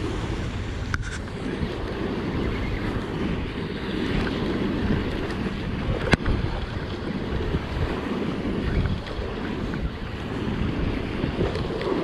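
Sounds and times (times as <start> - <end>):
waves washing against rocks: 0.0 - 12.0
wind buffeting microphone: 0.0 - 12.0.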